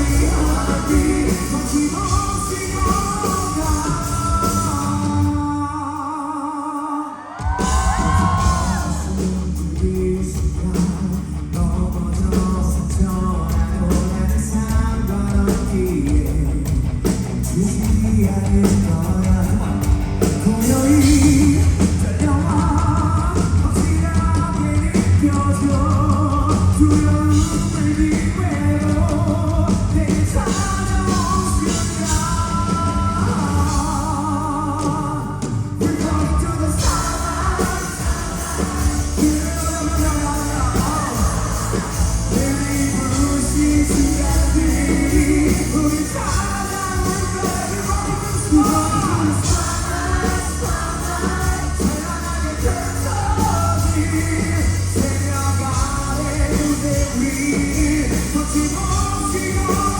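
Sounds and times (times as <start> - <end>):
live rock band playing: 0.0 - 6.2, 7.4 - 59.9
man singing with vibrato: 0.0 - 59.9.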